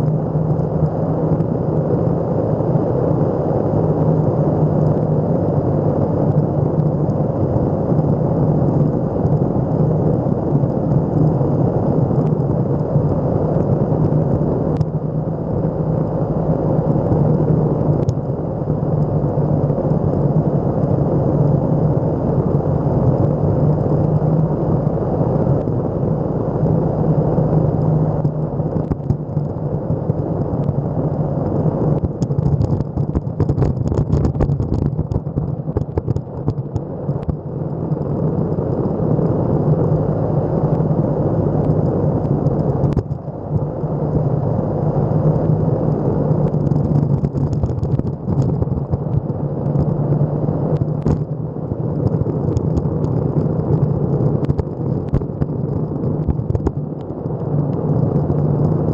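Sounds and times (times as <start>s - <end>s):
skateboard wheels rumbling on asphalt: 0.0s - 58.9s.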